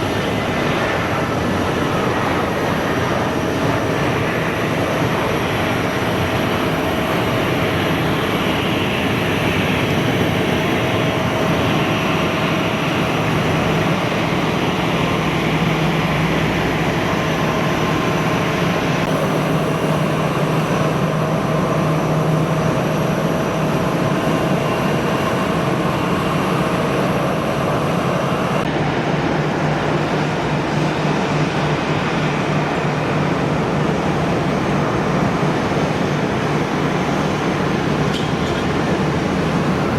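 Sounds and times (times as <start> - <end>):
high engine whine: 0.0 - 39.9
jet engines roaring: 0.0 - 39.9.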